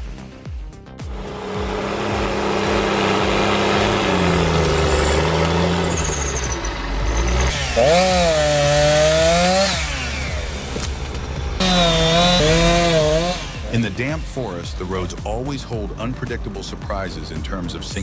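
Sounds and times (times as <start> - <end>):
engine revving: 1.0 - 18.0.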